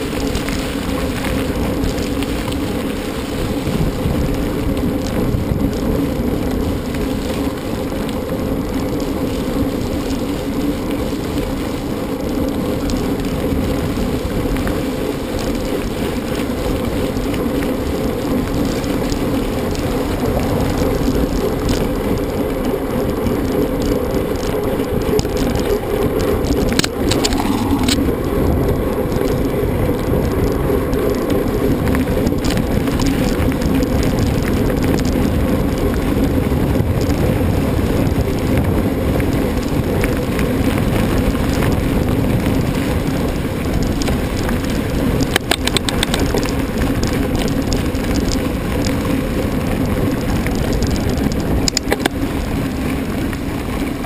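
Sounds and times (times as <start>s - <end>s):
mountain bike rattling on trail: 0.0s - 54.0s.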